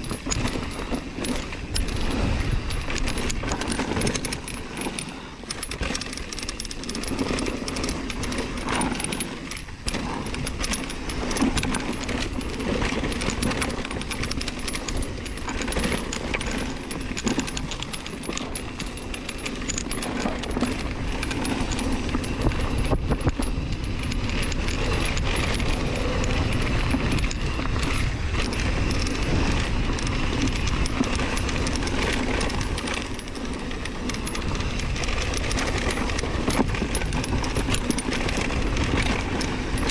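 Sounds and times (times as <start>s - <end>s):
chain and frame clattering: 0.0s - 39.9s.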